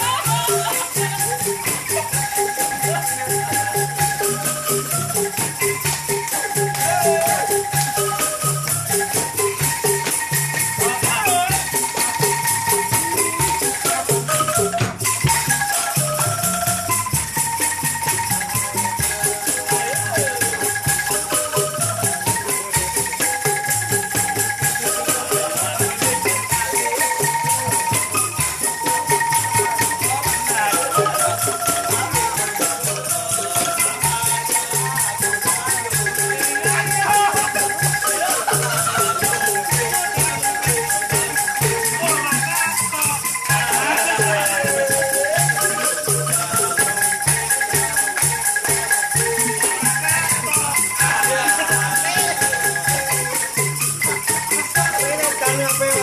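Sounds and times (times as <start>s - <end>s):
angklung rattling melody: 0.0s - 56.0s.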